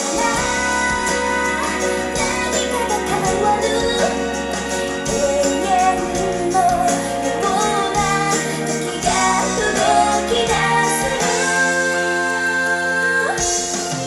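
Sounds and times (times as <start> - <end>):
song over a loudspeaker: 0.0 - 14.0
woman singing: 0.0 - 14.0.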